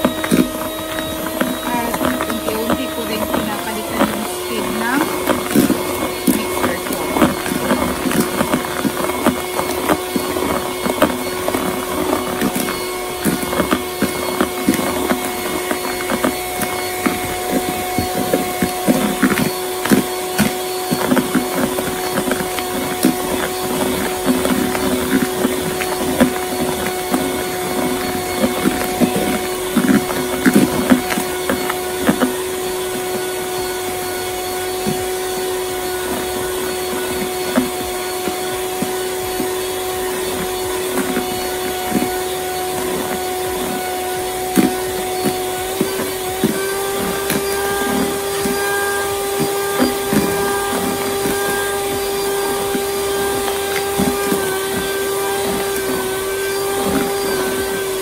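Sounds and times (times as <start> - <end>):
electric hand mixer running: 0.0 - 58.0.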